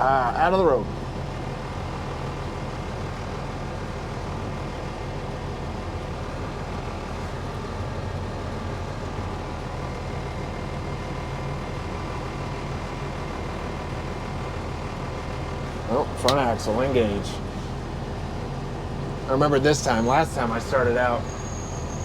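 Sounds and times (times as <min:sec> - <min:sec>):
diesel engine low drone: 0:00.0 - 0:22.0.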